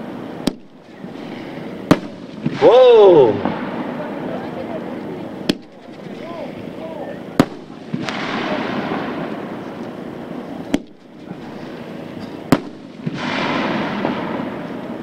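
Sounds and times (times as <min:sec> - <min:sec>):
firework shot reports: 0:00.4 - 0:15.0
hissing firework breaks: 0:00.4 - 0:15.0.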